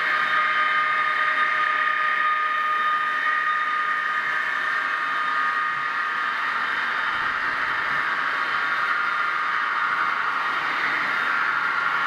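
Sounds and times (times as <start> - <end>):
model train motor whine: 0.0 - 12.0.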